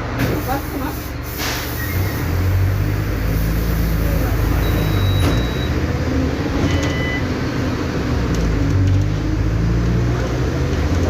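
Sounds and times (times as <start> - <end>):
diesel bus engine rumbling: 0.0 - 11.0.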